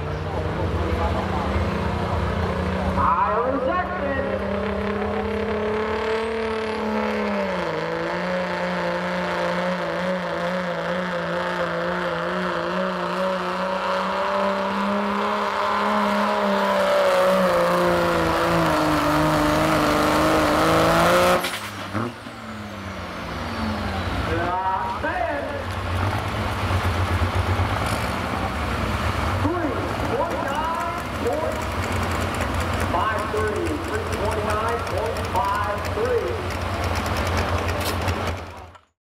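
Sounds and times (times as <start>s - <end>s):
diesel engine at full throttle: 0.0s - 39.0s.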